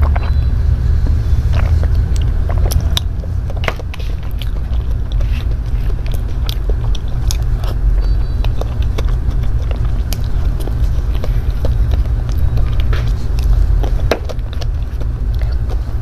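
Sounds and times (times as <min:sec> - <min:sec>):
steady low rumble: 0:00.0 - 0:16.0
wet chewing and mouth smacks: 0:00.0 - 0:16.0.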